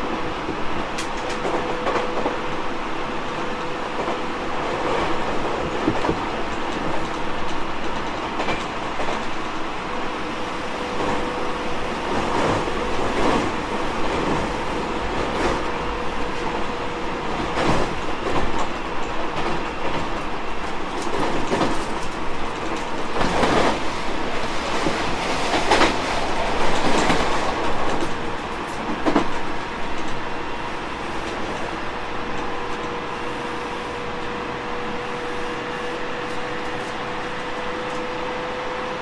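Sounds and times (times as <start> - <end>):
train running noise: 0.0 - 39.0.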